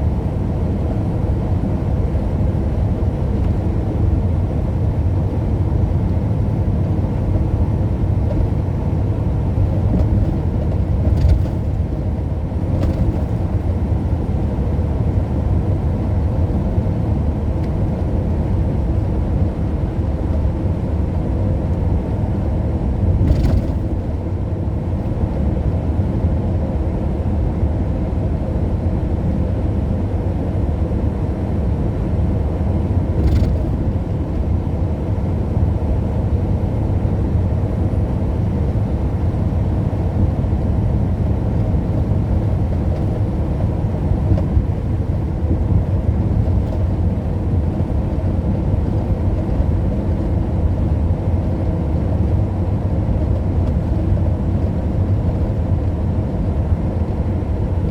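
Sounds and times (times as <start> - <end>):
car driving on road: 0.0 - 57.9.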